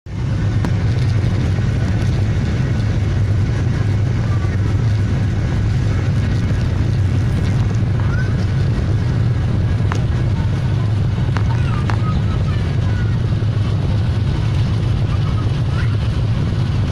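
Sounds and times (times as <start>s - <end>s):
airliner engines rumbling: 0.1s - 16.9s.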